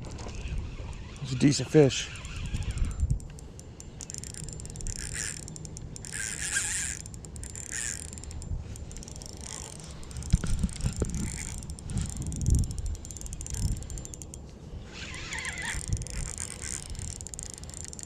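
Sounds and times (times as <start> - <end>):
fishing reel whirring: 0.0 - 18.0.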